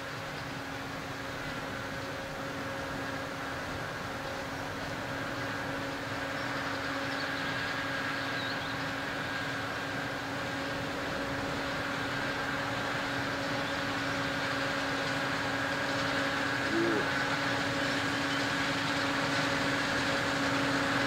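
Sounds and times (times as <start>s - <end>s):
distant combine harvester hum: 0.0s - 21.0s.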